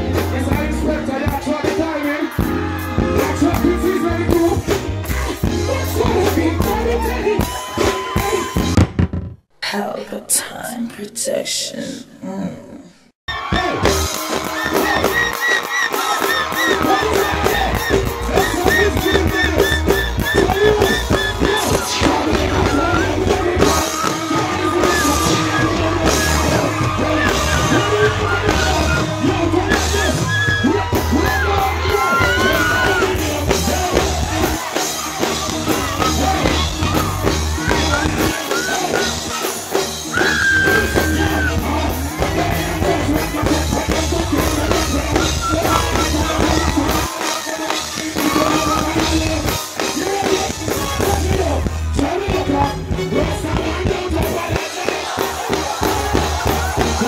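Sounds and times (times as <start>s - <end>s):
man singing and shouting: 0.0s - 8.8s, 16.1s - 57.0s
heavy bass line: 0.0s - 9.1s, 16.0s - 57.0s
reggae band playing: 0.0s - 9.2s, 13.3s - 57.0s.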